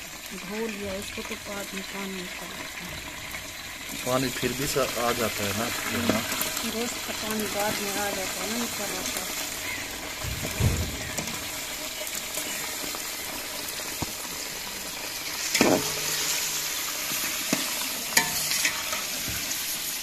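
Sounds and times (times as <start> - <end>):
meat and onions sizzling in oil: 0.0 - 20.0.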